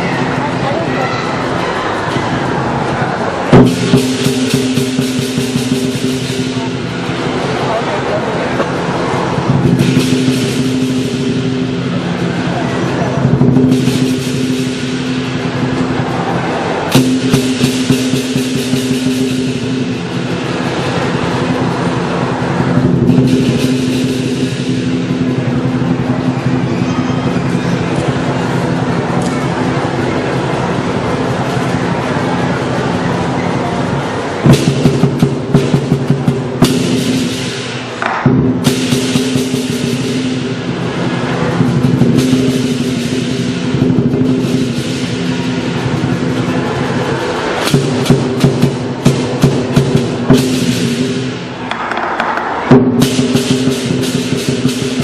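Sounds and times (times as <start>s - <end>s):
drum: 3.4s - 55.0s
cymbal strikes: 3.5s - 55.0s.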